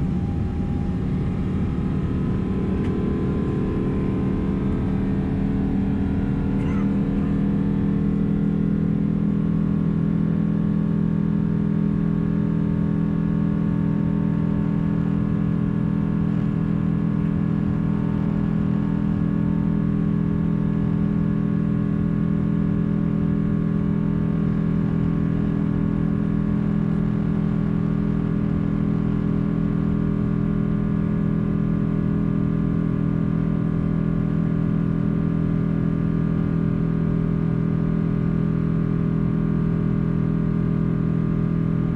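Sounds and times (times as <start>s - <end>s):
jet engines droning in cabin: 0.0s - 41.9s.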